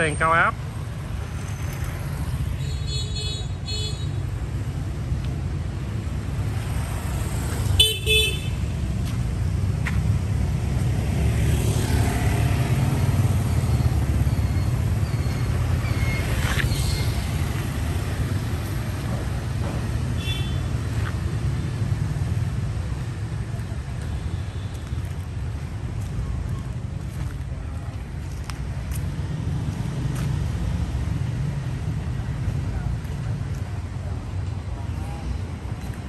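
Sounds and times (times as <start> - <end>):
low traffic rumble: 0.0 - 36.0
motorbikes passing: 0.0 - 36.0.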